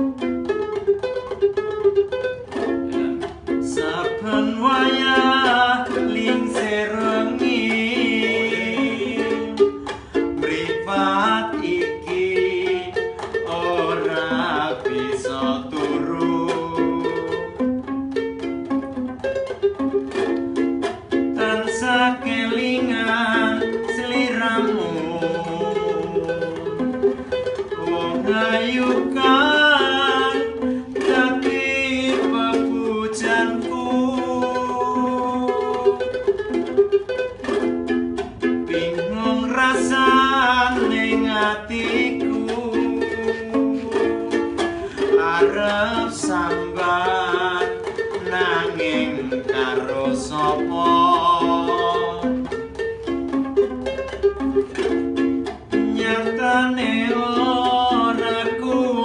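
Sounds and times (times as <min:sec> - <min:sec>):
plucked string instruments strumming: 0:00.0 - 0:59.0.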